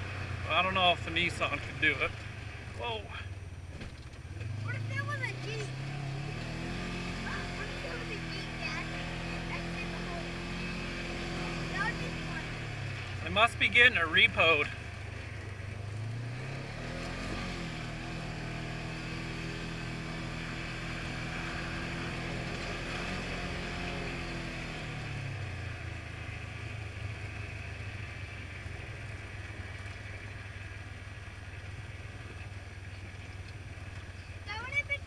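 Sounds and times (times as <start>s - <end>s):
engine pulling under throttle: 0.0s - 35.0s.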